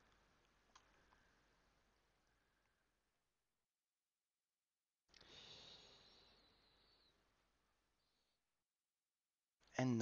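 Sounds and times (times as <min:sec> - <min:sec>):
faint recording hiss: 0:00.0 - 0:03.8, 0:05.1 - 0:08.9, 0:09.6 - 0:10.0.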